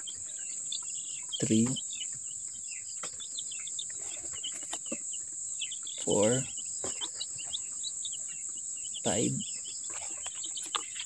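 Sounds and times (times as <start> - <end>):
chicks peeping: 0.0 - 11.0
crickets buzzing: 0.0 - 11.0.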